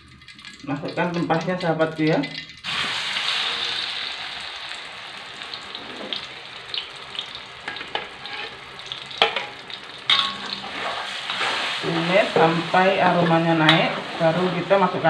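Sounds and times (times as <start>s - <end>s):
paste sizzling in hot oil: 2.6s - 15.0s.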